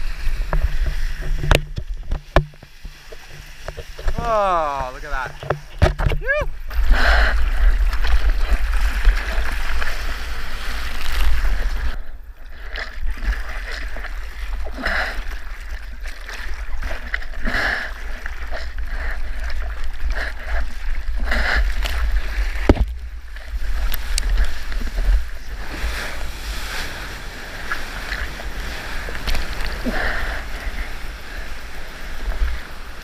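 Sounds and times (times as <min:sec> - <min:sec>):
seawater rushing and splashing: 0:00.0 - 0:33.0.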